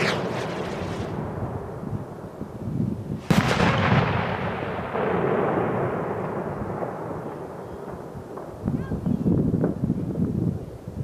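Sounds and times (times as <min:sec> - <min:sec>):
firework bang with rolling echo: 0:00.0 - 0:02.2, 0:03.2 - 0:10.4.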